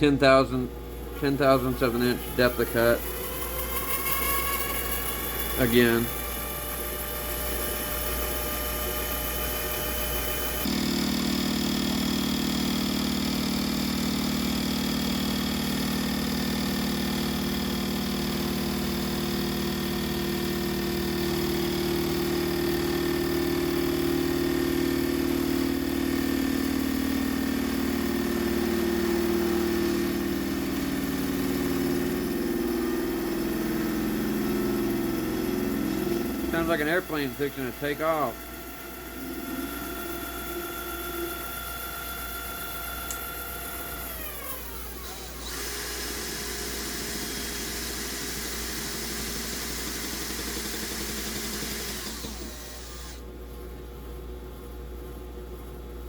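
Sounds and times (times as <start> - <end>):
lathe running: 0.4 - 53.2
hand drill motor drone: 1.1 - 53.2.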